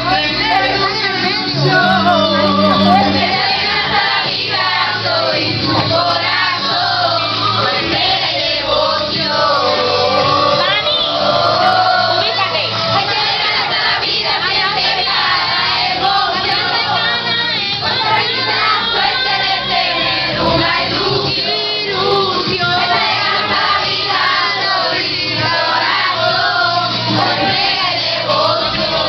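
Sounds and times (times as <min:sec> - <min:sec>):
group of teenagers singing: 0:00.0 - 0:29.0
music from a stereo: 0:00.0 - 0:29.0.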